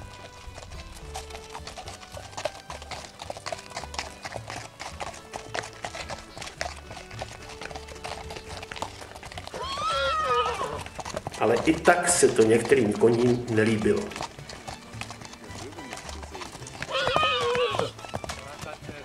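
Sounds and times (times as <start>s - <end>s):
horse whinnying: 0.0s - 18.8s
hooves clip-clopping on dirt: 0.0s - 19.0s.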